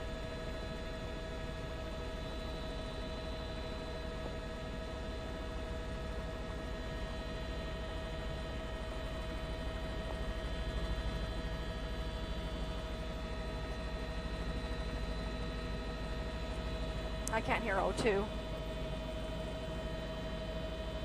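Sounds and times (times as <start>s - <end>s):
helicopter rotor beat: 0.0s - 21.0s
steady multi-tone whine: 0.0s - 21.0s.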